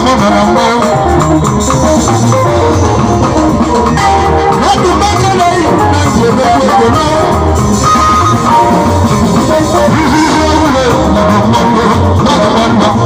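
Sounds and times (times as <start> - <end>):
band music over loudspeakers: 0.0 - 13.0
guitar lines: 0.0 - 13.0.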